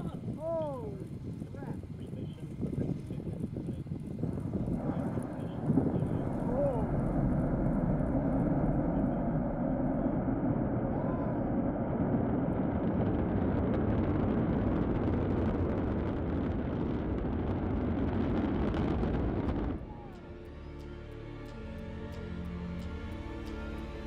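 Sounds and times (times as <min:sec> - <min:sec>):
fire crackling: 0:00.0 - 0:23.6
rocket engines roaring: 0:00.0 - 0:24.0.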